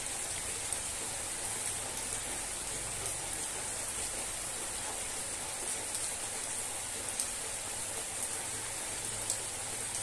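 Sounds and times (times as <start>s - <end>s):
rain falling on trees: 0.0s - 10.0s.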